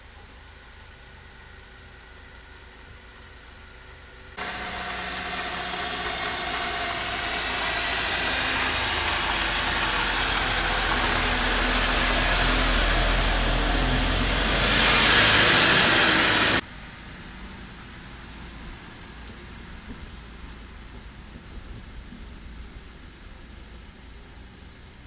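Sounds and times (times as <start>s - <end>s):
motor vehicle rumbling: 3.8s - 25.0s.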